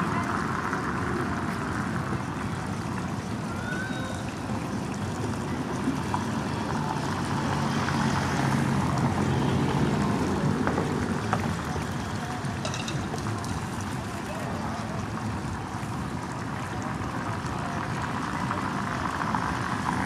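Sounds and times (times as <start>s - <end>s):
low boat engine hum: 0.0s - 20.0s.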